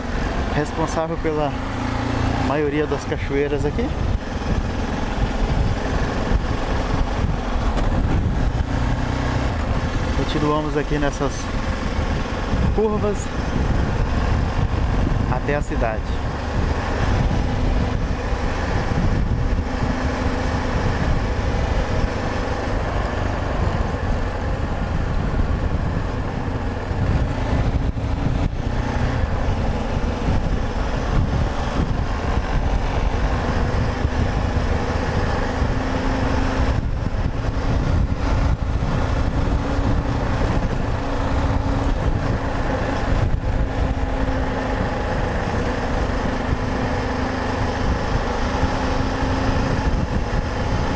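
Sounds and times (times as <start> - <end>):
motorcycle engine running: 0.0 - 50.9
wind noise on microphone: 0.0 - 50.9.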